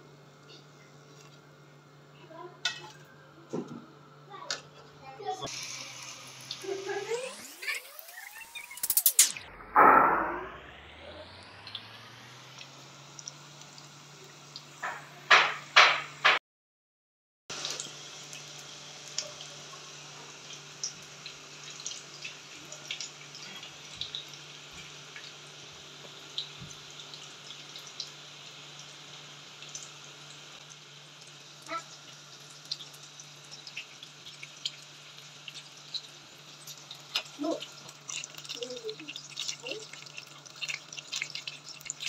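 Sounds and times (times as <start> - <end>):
food sizzling in hot oil: 5.2 - 9.3, 10.4 - 16.3, 17.5 - 42.0.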